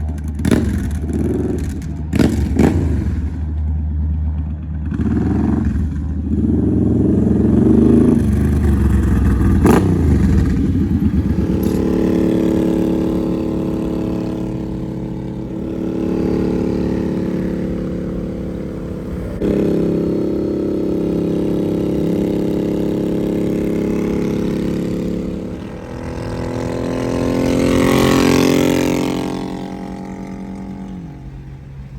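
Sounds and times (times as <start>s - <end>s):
motorcycle engine running loud: 0.0s - 31.9s.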